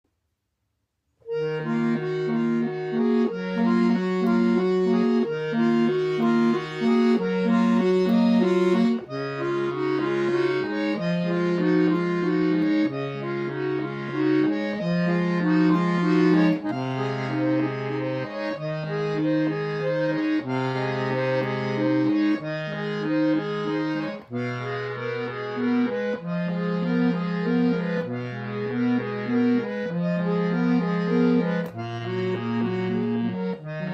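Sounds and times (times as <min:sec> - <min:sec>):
accordion bass notes: 0:01.2 - 0:33.9
sustained accordion chords: 0:01.2 - 0:33.9.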